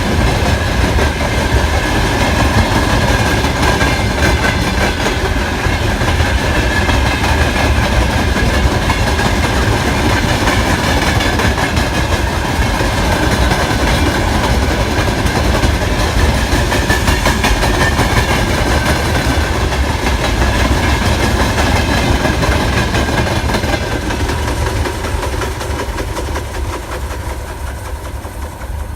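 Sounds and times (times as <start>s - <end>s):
train wheels clattering over rail joints: 0.0s - 28.9s.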